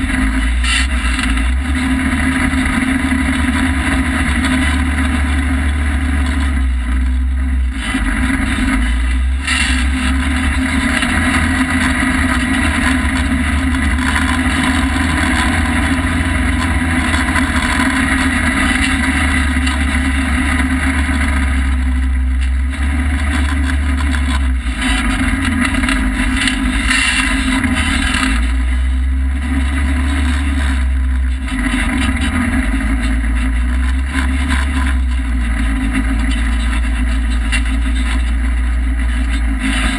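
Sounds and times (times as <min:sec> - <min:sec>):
off-road vehicle engine and driving: 0:00.0 - 0:39.9.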